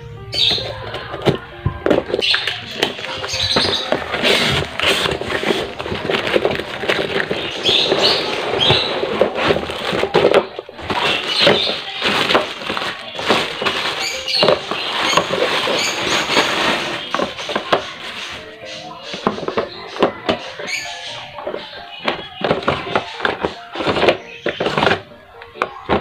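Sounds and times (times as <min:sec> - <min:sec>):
packaging rustling and crinkling: 0:00.6 - 0:26.0.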